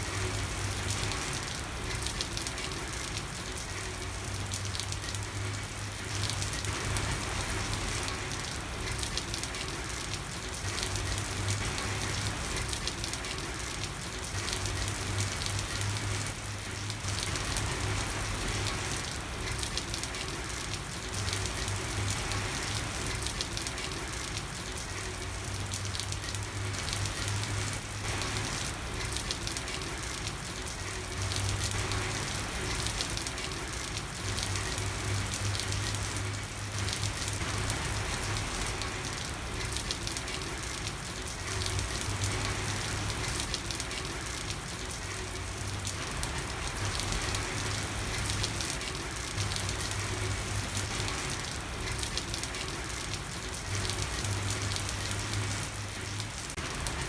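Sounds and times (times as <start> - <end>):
rain falling on street: 0.0 - 57.0.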